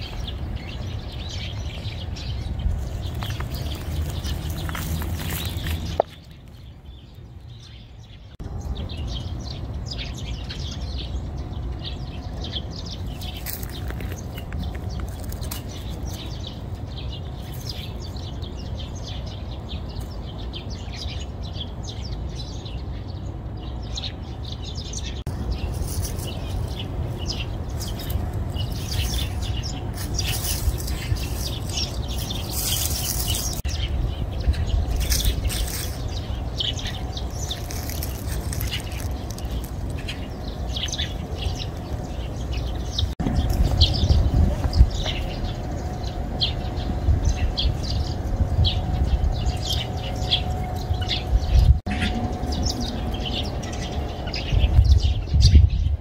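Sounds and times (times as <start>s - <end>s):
low rumble of outdoor noise: 0.0s - 56.0s
small birds chirping: 0.0s - 56.0s.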